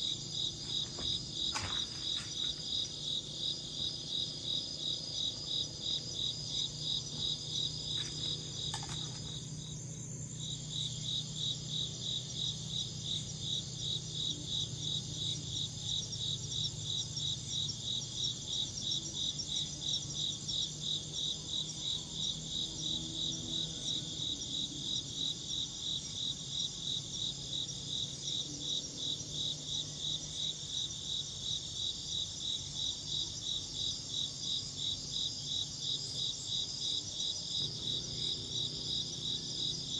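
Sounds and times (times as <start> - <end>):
crickets chirping: 0.0 - 39.9
high faint insect trill: 0.0 - 39.9.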